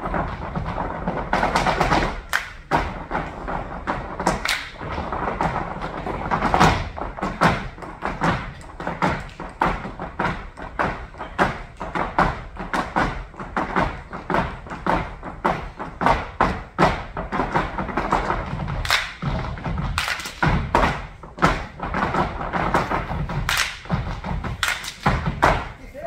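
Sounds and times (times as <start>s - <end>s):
shoes stamping on stage: 0.0s - 26.0s.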